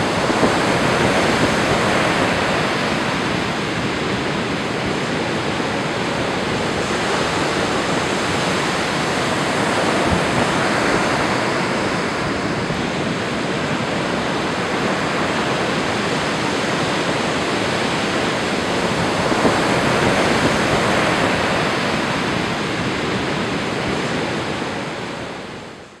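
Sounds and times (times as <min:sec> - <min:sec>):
surf breaking on rocky shore: 0:00.0 - 0:25.6.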